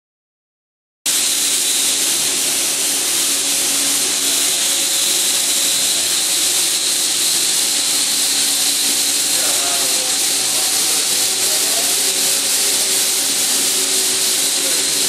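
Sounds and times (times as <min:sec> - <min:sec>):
steady loud hiss: 0:01.1 - 0:15.0.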